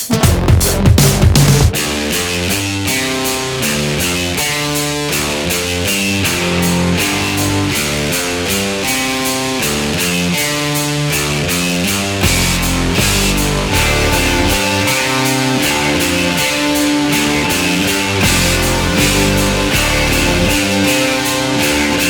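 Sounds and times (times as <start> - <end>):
guitar rock music with drums: 0.0 - 22.0.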